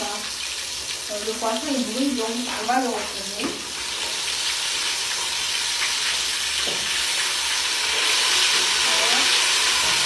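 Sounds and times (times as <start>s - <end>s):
fish sizzling in oil: 0.0s - 10.0s.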